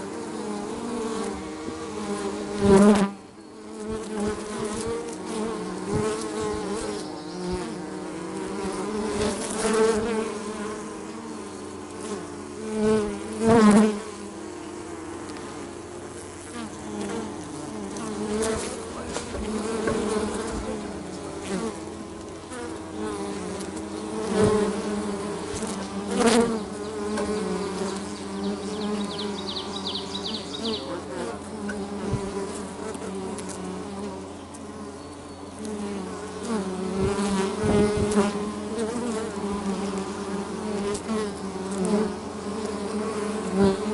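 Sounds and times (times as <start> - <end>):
bees buzzing: 0.0 - 43.9.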